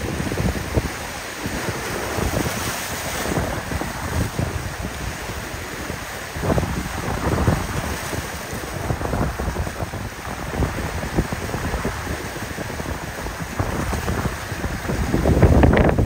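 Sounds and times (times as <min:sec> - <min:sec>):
water washing from boat wake: 0:00.0 - 0:16.0
wind buffeting microphone: 0:00.0 - 0:16.0.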